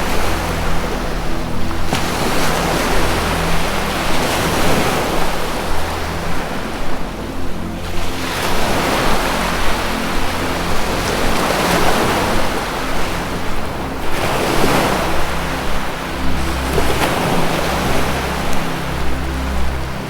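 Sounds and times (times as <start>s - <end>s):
low music drone: 0.0s - 20.0s
ocean surf washing: 0.0s - 20.0s.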